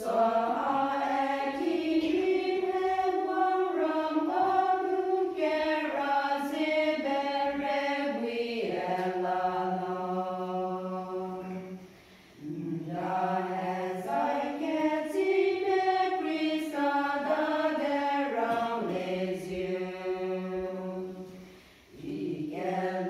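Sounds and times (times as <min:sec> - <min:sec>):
women's choir singing a hymn: 0:00.0 - 0:23.0.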